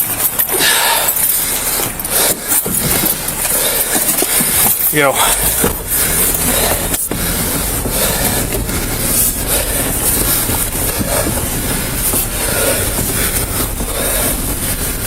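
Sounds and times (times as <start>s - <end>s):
vehicle rumbling and clattering: 0.0s - 15.0s.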